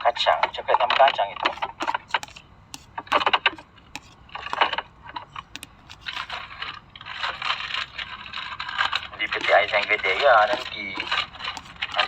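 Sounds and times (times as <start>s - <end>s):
packaging rustling and crinkling: 1.4s - 12.0s.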